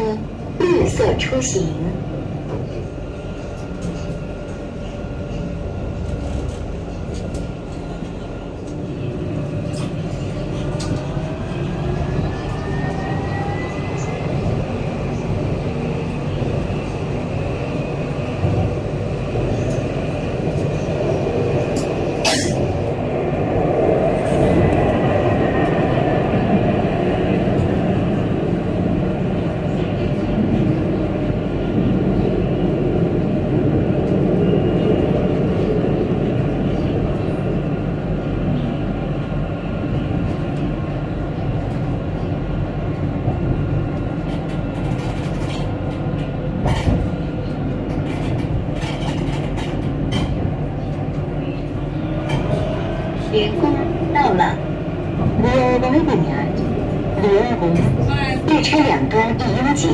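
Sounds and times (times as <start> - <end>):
tram wheels rumbling on track: 0.0 - 59.9.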